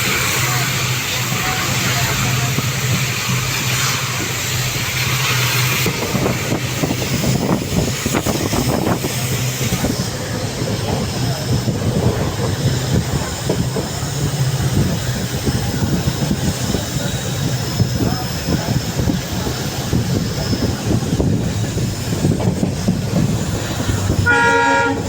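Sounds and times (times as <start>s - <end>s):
train wheels clattering over joints: 0.0s - 24.3s
train low drone: 0.0s - 25.0s.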